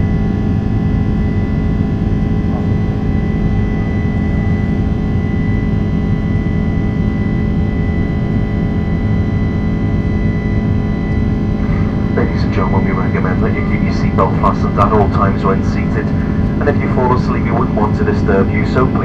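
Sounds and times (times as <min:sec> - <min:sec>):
engine whining tones: 0:00.0 - 0:19.0
jet engines rumbling in cabin: 0:00.0 - 0:19.0.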